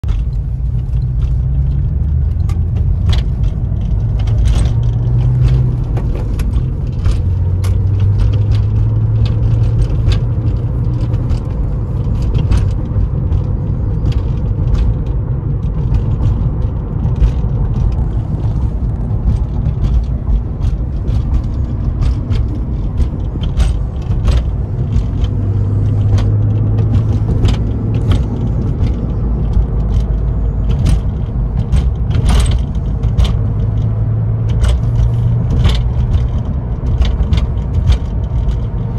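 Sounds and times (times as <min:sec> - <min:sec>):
car engine accelerating: 0:00.0 - 0:38.9
sharp clicks and rattles: 0:00.0 - 0:38.9.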